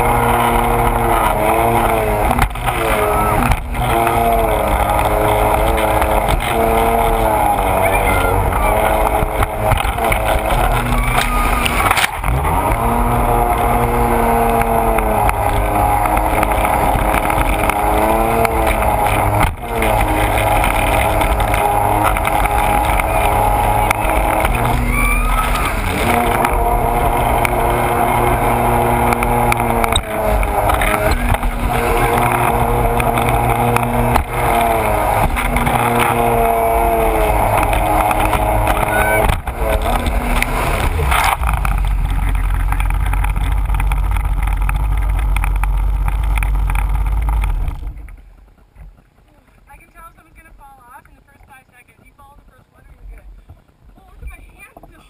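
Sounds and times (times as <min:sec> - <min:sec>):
water spray splashing: 0:00.0 - 0:47.8
watercraft engine running hard: 0:00.0 - 0:50.4.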